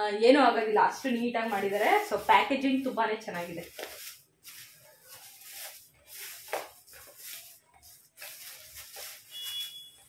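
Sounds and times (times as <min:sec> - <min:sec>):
plastic packaging crinkling: 0:01.0 - 0:10.0.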